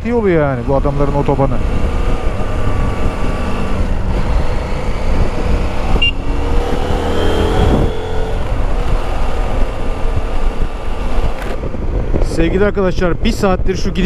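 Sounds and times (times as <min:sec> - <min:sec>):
road and wind noise: 0:00.0 - 0:14.0
motorcycle engine running: 0:00.3 - 0:12.3.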